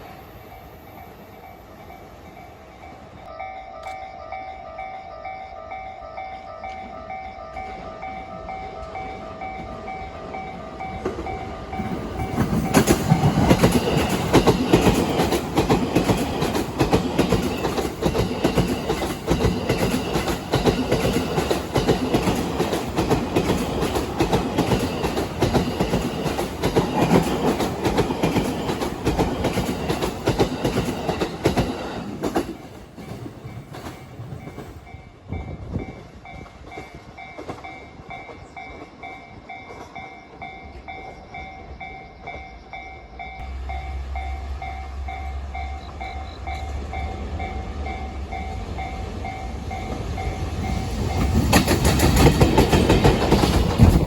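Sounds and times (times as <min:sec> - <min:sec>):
crossing warning bell ringing: 0:00.0 - 0:54.0
train wheels clattering: 0:08.4 - 0:43.9, 0:45.6 - 0:54.0.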